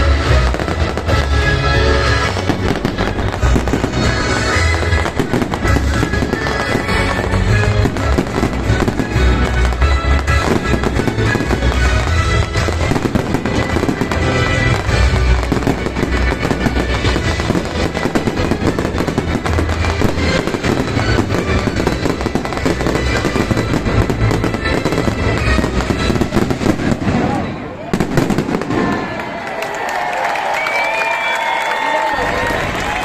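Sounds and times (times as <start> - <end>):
music playing: 0.0 - 28.5
fireworks bangs and crackles: 0.0 - 29.4.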